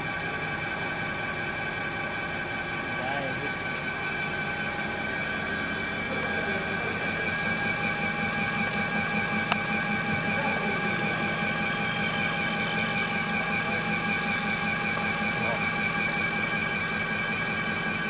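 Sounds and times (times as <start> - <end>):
milling machine whining: 0.0 - 18.0.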